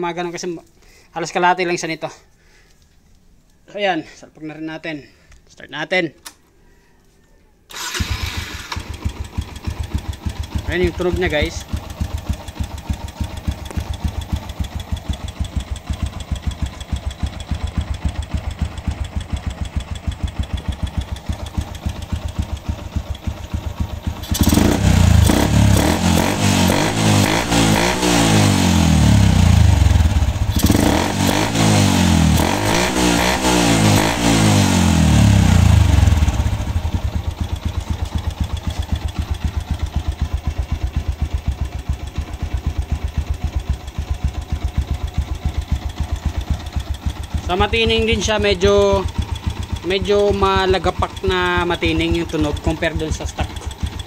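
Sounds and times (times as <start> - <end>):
motorcycle engine revving: 7.7 - 54.0.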